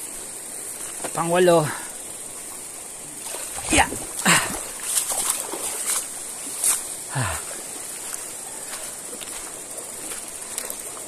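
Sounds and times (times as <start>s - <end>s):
high insect buzz: 0.0s - 11.0s
river rushing: 0.0s - 11.0s.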